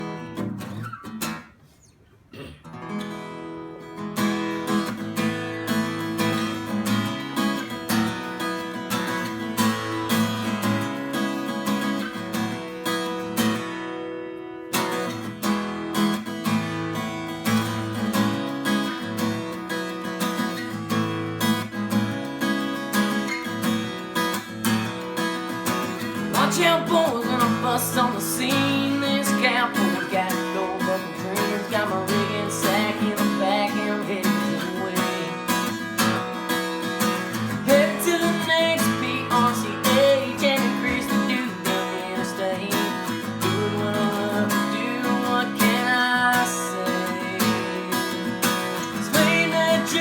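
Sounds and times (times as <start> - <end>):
country music with acoustic guitar: 0.0 - 1.8, 2.4 - 50.0.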